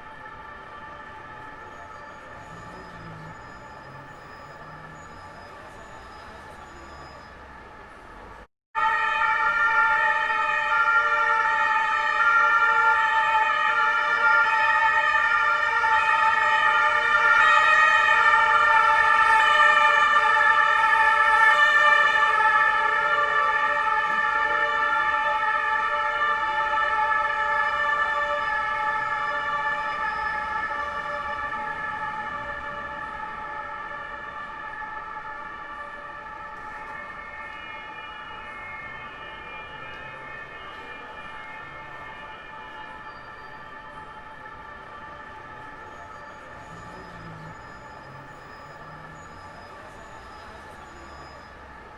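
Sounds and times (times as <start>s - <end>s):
police two-tone siren: 0.0s - 51.9s.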